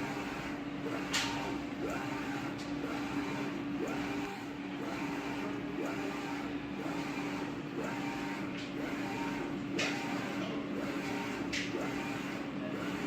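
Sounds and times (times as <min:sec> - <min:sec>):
motor hum: 0:00.0 - 0:13.0.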